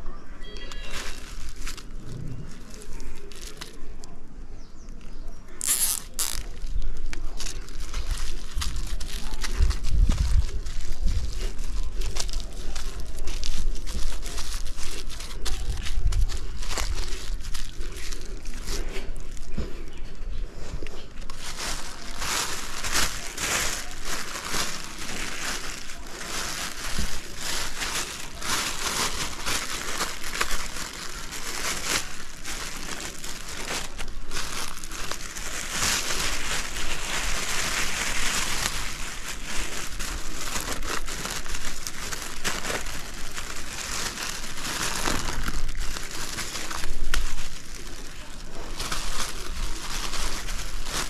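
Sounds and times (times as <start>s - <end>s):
plastic sheeting crinkling: 0.0s - 4.2s, 4.8s - 51.0s.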